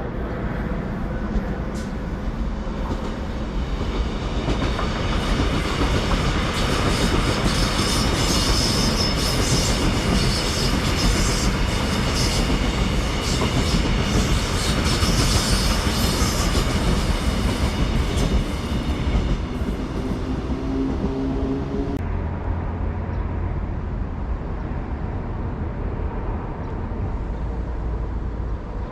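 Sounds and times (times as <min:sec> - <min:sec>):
train rumbling past: 0:00.0 - 0:28.9.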